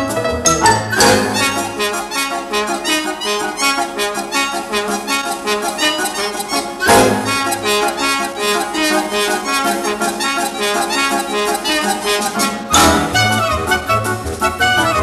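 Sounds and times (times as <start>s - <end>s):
bouncy cartoon music: 0.0s - 15.0s.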